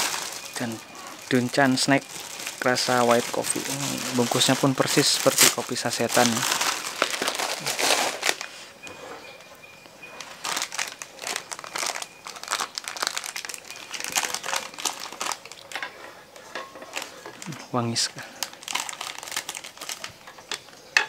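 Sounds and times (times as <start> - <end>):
plastic snack packet crinkling: 0.0 - 8.5, 10.2 - 20.6.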